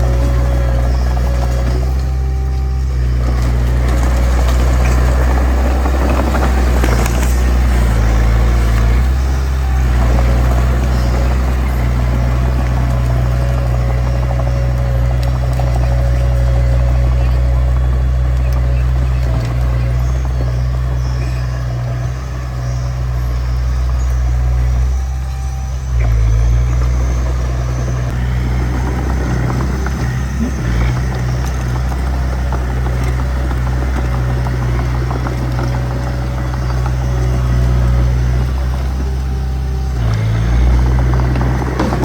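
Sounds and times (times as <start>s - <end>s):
bulldozer diesel engine: 0.0s - 42.0s.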